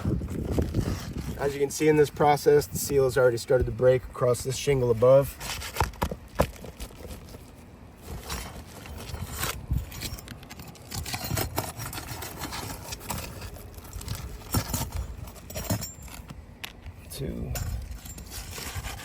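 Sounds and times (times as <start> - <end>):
scraping roof shingles: 0.0 - 16.3, 17.7 - 19.0.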